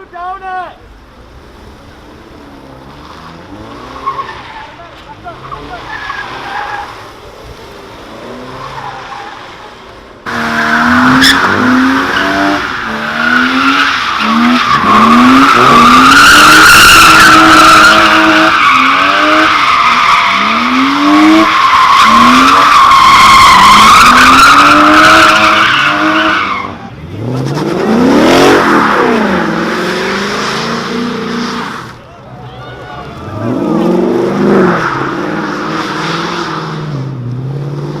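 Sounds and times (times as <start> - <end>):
car engine revving: 1.4 - 32.0, 33.2 - 38.0
tires squealing: 2.6 - 7.4, 8.0 - 38.0.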